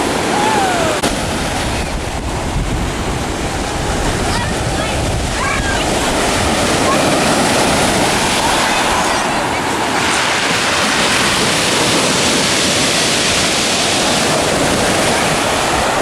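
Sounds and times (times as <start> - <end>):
heavy waves breaking on shore: 0.0 - 16.0
wind buffeting microphone: 0.0 - 16.0.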